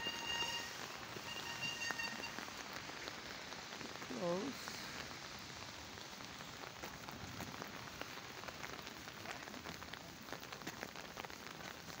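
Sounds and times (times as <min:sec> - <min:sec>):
rain on wet tarmac: 0:00.0 - 0:12.0.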